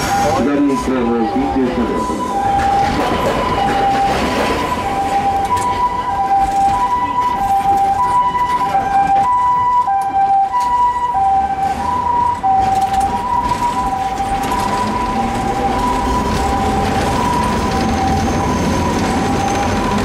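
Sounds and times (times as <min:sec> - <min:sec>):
tram moving on rails: 0:00.0 - 0:20.0
two-tone ambulance siren: 0:00.0 - 0:20.0.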